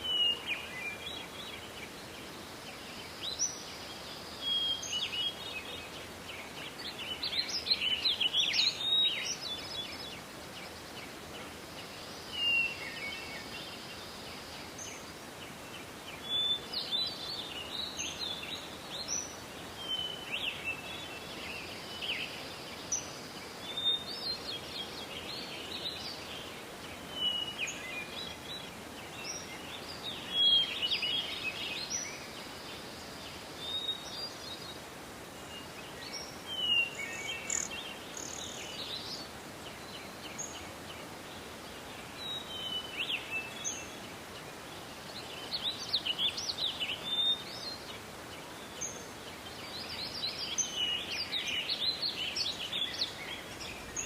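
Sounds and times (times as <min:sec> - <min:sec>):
faint forest background hiss: 0:00.0 - 0:54.0
songbirds chirping and twittering: 0:00.0 - 0:54.0.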